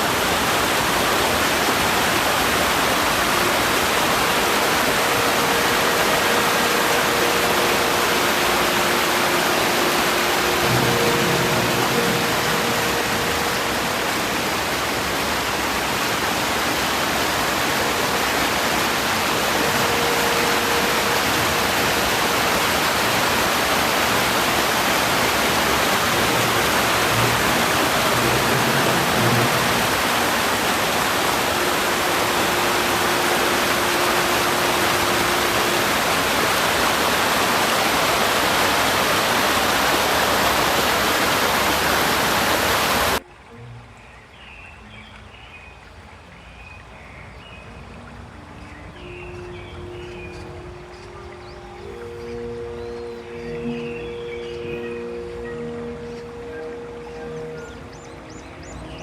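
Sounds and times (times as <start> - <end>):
river water rushing over weir: 0.0 - 59.0.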